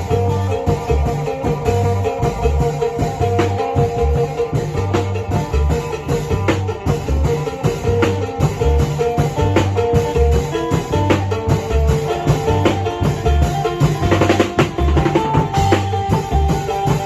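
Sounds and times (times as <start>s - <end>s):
lute playing running melody: 0.0s - 17.0s
repeating bass line: 0.0s - 17.0s
steady drums: 0.0s - 17.0s.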